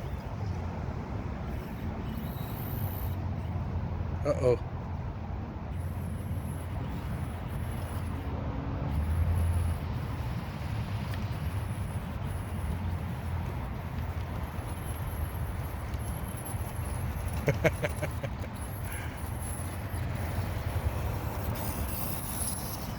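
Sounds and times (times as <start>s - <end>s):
small electric motor whining: 1.2s - 3.6s, 5.7s - 22.9s.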